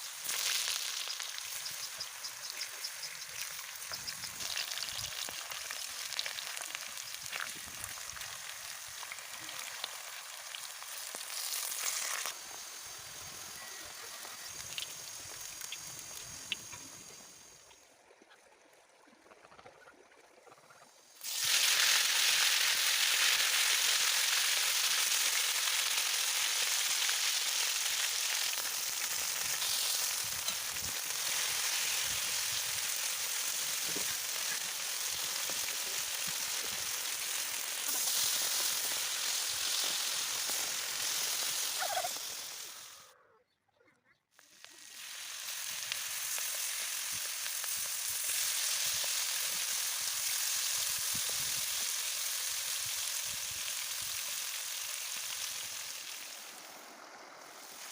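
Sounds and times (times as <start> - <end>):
meat sizzling on a griddle: 0.0 - 17.7, 21.1 - 43.0, 44.4 - 57.9.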